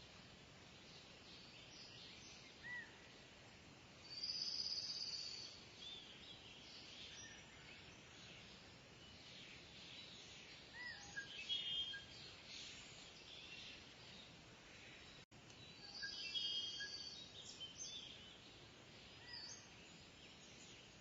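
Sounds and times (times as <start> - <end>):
outdoor ambient hiss: 0.0 - 21.0
small birds chirping: 0.0 - 21.0.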